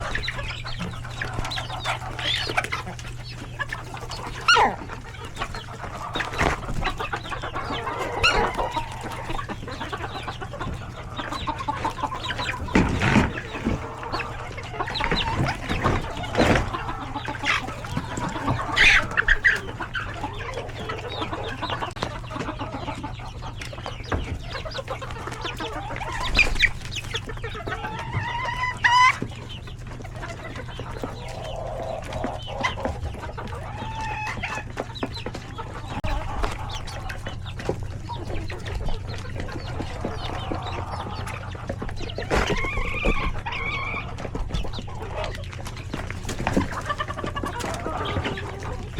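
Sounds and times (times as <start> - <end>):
chicken squawks: 0.0 - 48.9
chicks peeping: 0.0 - 48.9
hens clucking: 0.0 - 48.9.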